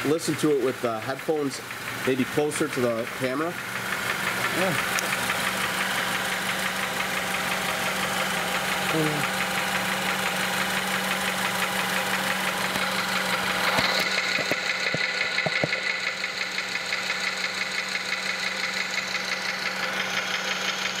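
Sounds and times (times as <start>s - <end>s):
car engine running: 0.0s - 21.0s
engine knocking: 0.0s - 21.0s.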